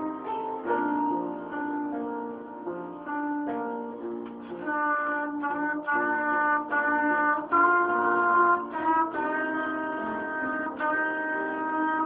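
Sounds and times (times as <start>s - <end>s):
piano accompaniment: 0.0s - 12.0s
trumpet melody: 0.0s - 12.0s.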